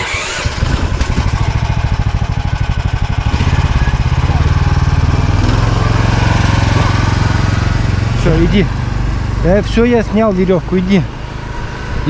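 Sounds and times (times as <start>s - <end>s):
snowmobile engine idling: 0.1s - 12.0s.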